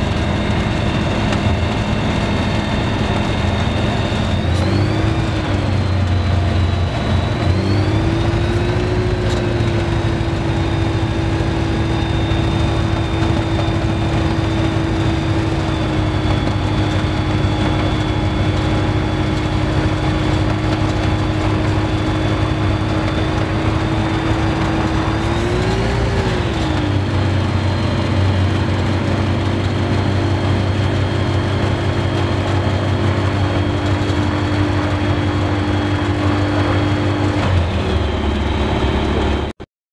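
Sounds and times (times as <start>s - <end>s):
light aircraft engine and propeller: 0.0s - 39.6s.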